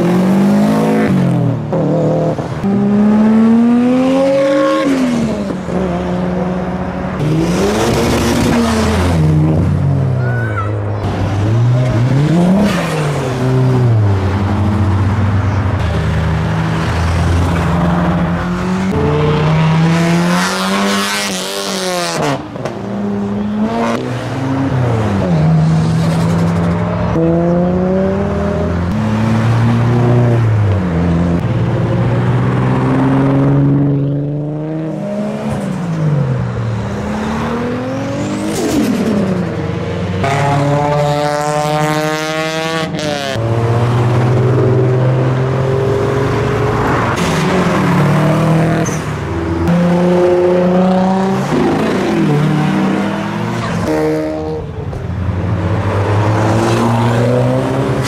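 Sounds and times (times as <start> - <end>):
cars accelerating past: 0.0 - 10.2, 11.0 - 58.0.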